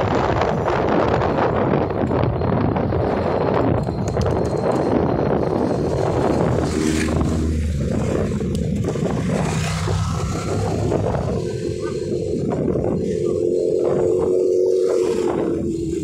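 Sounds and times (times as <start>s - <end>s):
motorcycles passing: 0.0s - 16.0s
wind rush on microphone: 0.0s - 16.0s.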